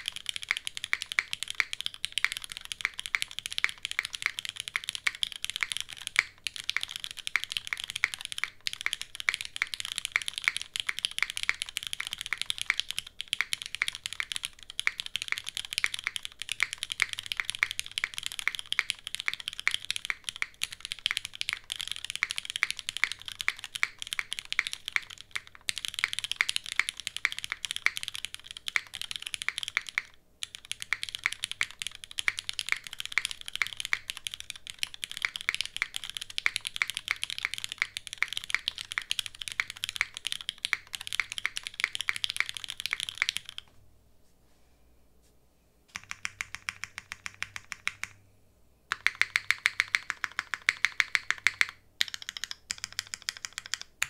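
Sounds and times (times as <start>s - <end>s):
mechanical keyboard typing: 0.0s - 43.7s, 45.9s - 48.2s, 48.9s - 54.0s.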